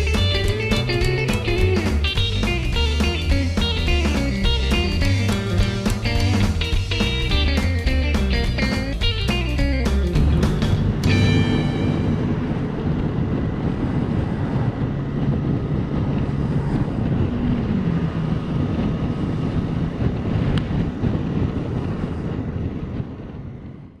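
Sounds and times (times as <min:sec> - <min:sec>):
motorcycle engine running: 0:00.0 - 0:23.8
wind noise on microphone: 0:00.0 - 0:24.0.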